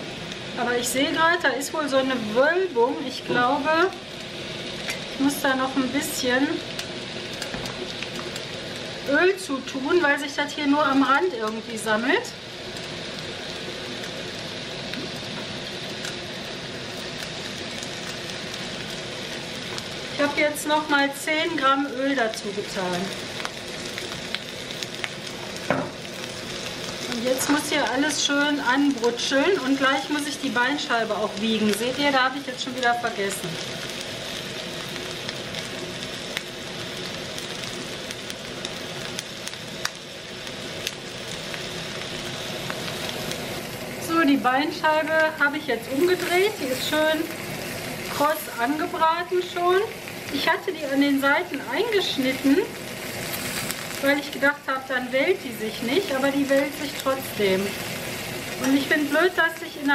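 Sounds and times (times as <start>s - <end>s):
meat sizzling in hot oil: 0.0s - 59.9s.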